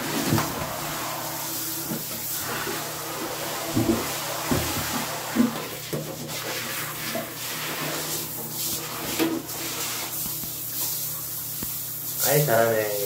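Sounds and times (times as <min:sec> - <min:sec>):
shower head spraying water: 0:00.0 - 0:13.0.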